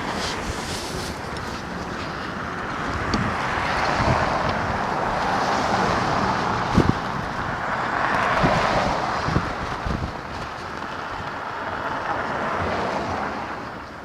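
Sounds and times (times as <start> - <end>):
wind gusting against microphone: 0.0 - 13.9.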